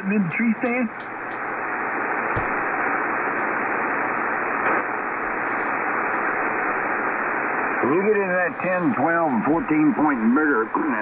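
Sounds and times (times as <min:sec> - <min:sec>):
shortwave radio noise hissing: 0:00.0 - 0:11.0.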